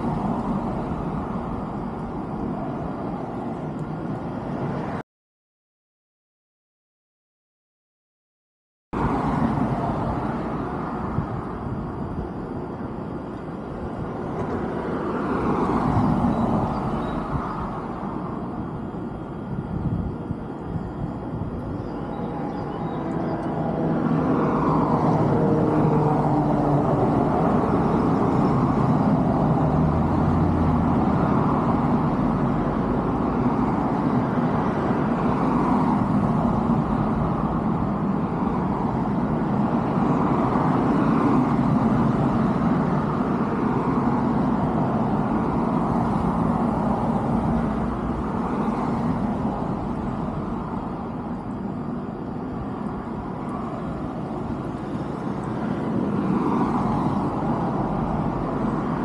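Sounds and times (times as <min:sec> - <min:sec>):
road traffic rumble: 0:00.0 - 0:05.0, 0:09.0 - 0:59.0.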